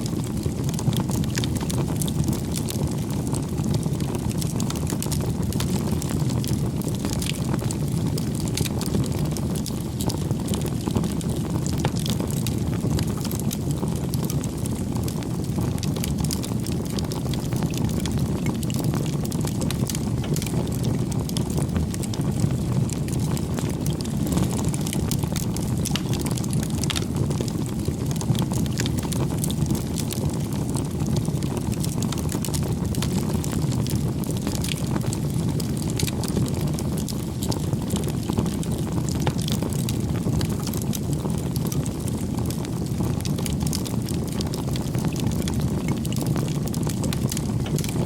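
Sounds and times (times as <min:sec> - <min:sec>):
campfire flame rush: 0:00.0 - 0:48.0
fire crackling: 0:00.0 - 0:48.0.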